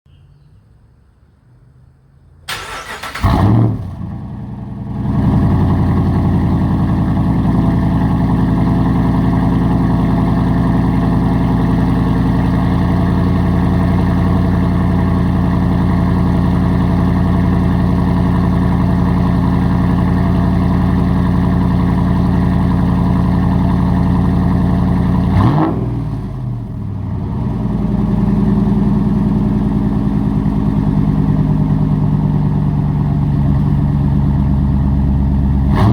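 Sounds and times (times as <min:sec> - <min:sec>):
loud engine starting and idling: 0:02.5 - 0:35.9.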